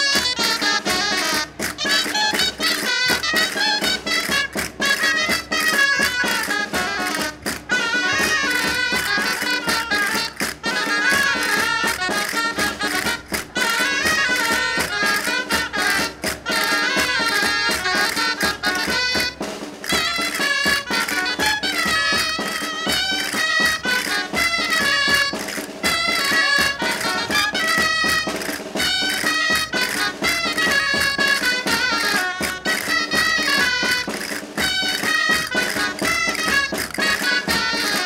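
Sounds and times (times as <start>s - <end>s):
clarinet folk melody: 0.0s - 38.0s
drum beat: 0.0s - 38.0s.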